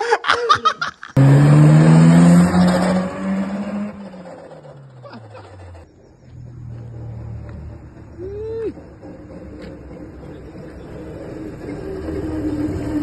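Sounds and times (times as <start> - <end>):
car engine accelerating: 1.2 - 13.0.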